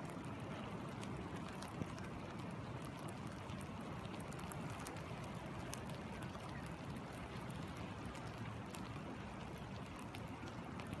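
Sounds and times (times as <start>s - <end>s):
rain drops ticking on water: 0.0s - 11.0s.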